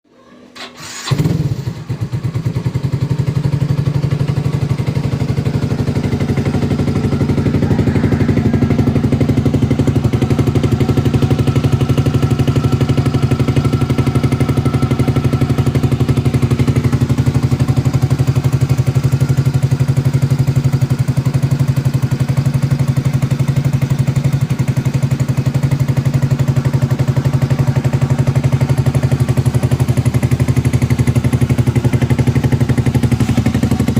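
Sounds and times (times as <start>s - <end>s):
scooter engine starting and idling: 0.5s - 33.9s.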